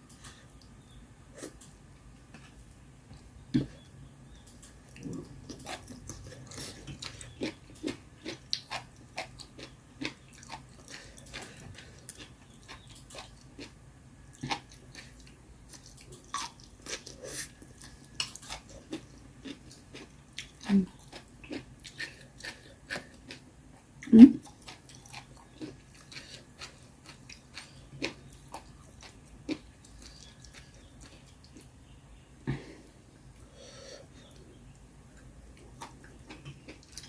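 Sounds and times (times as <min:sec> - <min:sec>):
person chewing and smacking: 0:03.5 - 0:32.0, 0:34.3 - 0:37.0.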